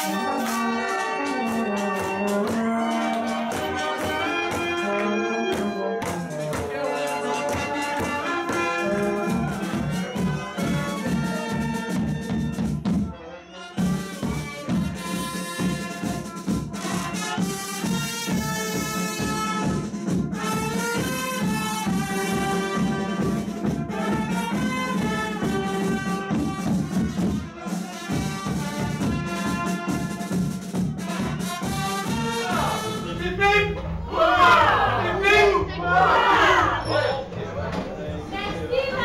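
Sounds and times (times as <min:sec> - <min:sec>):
steady drum beat: 0:00.0 - 0:04.9, 0:05.5 - 0:13.1, 0:13.8 - 0:36.6
trumpets: 0:00.0 - 0:37.2
brass band playing: 0:00.0 - 0:37.4.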